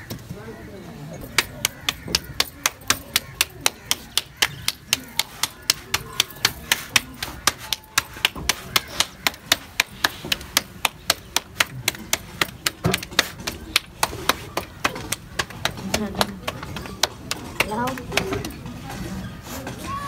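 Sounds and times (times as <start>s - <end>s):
dough slapped between palms: 1.3s - 18.2s.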